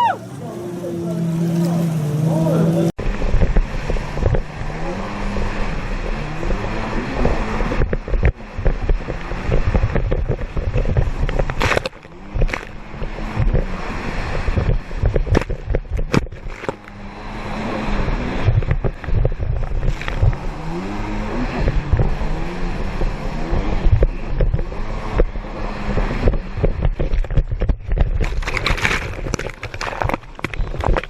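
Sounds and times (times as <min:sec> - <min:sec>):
jet ski engines revving: 0:00.0 - 0:31.0
water and wind noise: 0:00.0 - 0:31.0.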